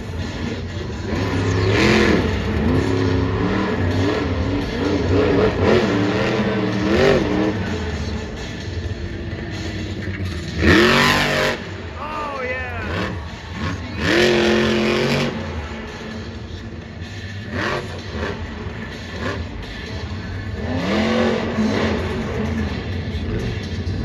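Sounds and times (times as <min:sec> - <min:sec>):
monster truck engine revving: 0:00.2 - 0:08.8, 0:09.4 - 0:12.0, 0:12.8 - 0:24.0.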